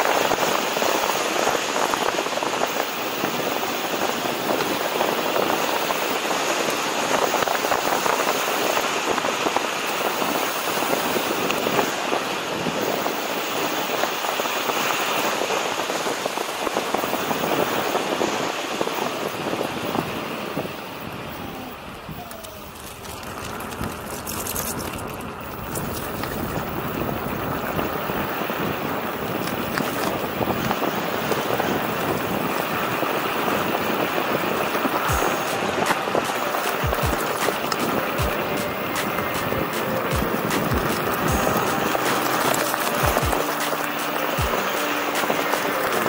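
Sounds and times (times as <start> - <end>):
tyre noise on road: 0.0 - 46.0
wind on microphone: 0.0 - 46.0.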